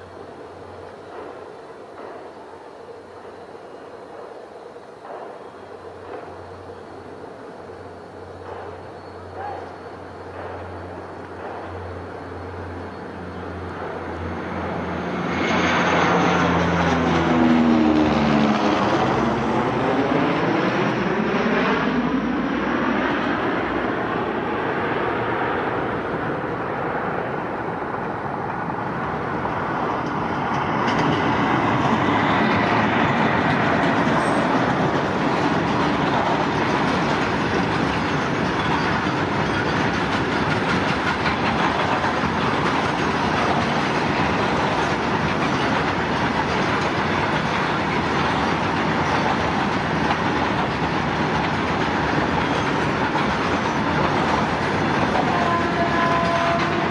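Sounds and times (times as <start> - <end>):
train passing at speed: 0.0 - 56.9
wheels rumbling on rail: 0.0 - 56.9.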